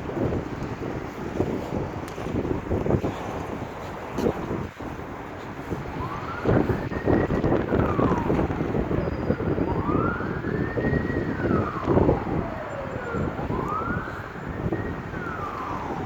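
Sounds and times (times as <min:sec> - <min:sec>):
emergency vehicle siren wailing: 0:00.0 - 0:16.0
wind buffeting microphone: 0:00.0 - 0:16.0.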